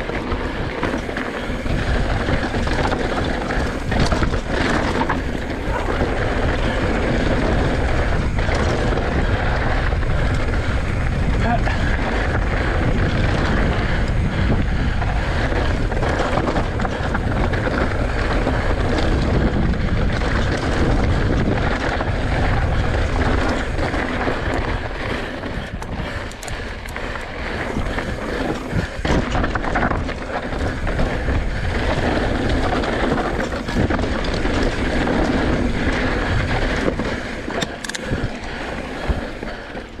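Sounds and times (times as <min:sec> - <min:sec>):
bike rattling: 0:00.0 - 0:40.0
tyres over dirt and rock: 0:00.0 - 0:40.0
wind buffeting microphone: 0:00.0 - 0:40.0.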